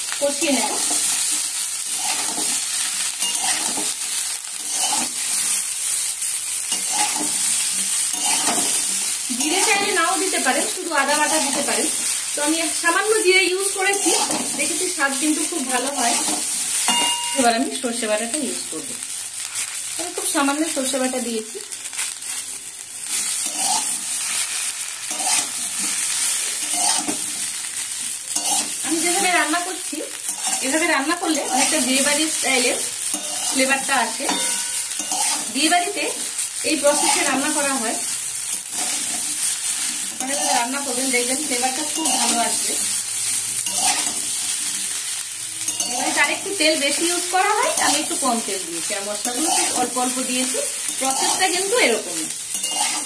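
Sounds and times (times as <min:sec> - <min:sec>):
vegetables sizzling in oil: 0:00.0 - 0:53.0
metal spatula scraping: 0:00.6 - 0:05.7, 0:06.5 - 0:17.6, 0:23.0 - 0:53.0.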